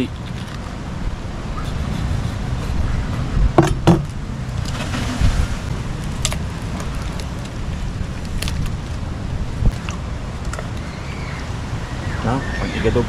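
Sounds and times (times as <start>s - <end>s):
low wind: 0.0s - 13.0s
surf: 1.3s - 13.0s.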